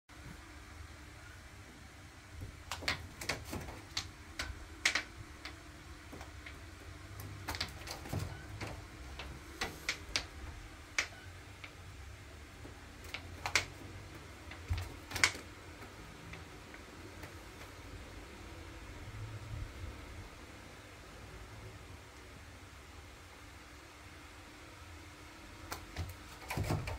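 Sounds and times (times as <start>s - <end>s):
faint steady hum: 0.1s - 26.9s.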